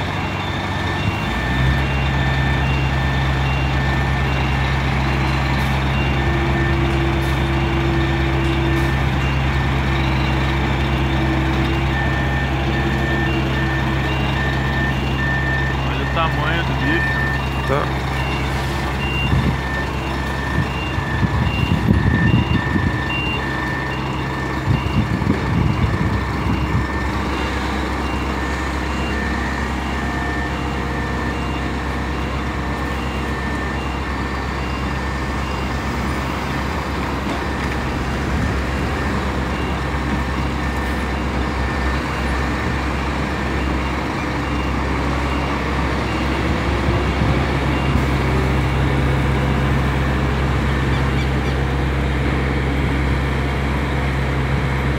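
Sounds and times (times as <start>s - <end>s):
reversing alarm beeping: 0.0s - 53.0s
diesel coach engine running: 0.0s - 54.9s.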